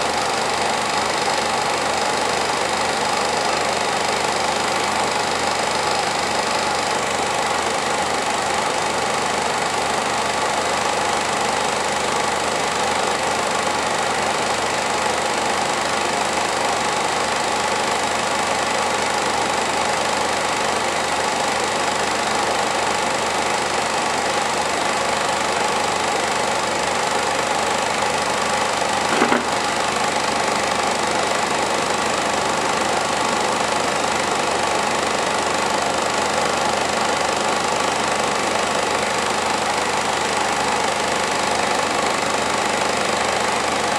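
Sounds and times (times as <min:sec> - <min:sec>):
film projector whirring and clattering: 0:00.0 - 0:43.9.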